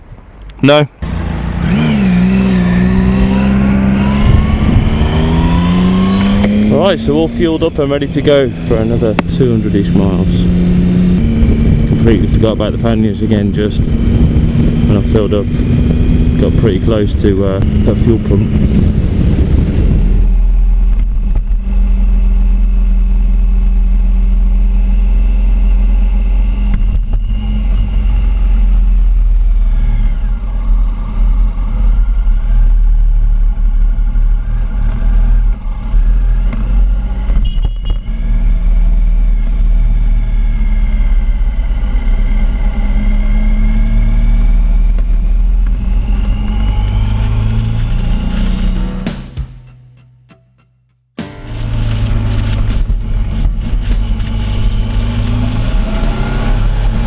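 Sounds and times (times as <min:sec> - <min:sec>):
motorcycle engine revving: 0:01.0 - 0:49.7, 0:51.2 - 0:57.0.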